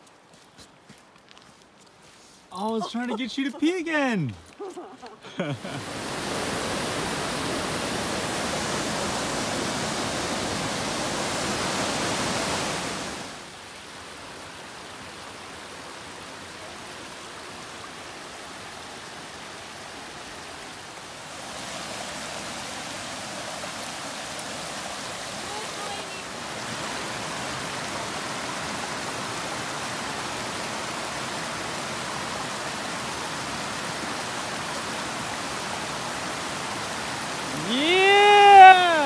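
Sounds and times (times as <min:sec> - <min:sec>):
rushing creek water: 0:00.0 - 0:39.0.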